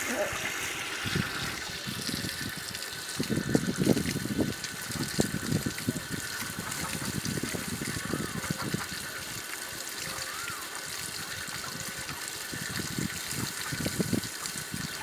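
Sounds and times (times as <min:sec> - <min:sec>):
water gushing and splashing: 0:00.0 - 0:15.0.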